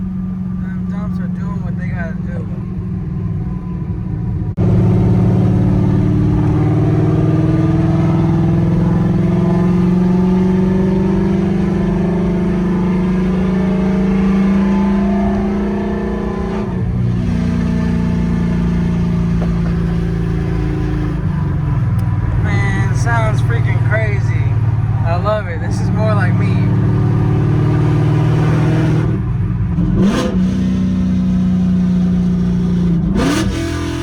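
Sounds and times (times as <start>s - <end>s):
car engine revving on open exhaust: 0.0s - 34.0s.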